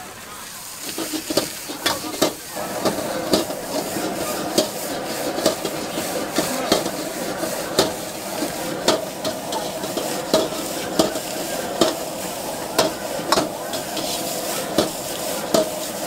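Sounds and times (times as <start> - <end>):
steady sizzle: 0.0 - 16.0
metal ladle scraping a wok: 0.8 - 16.0.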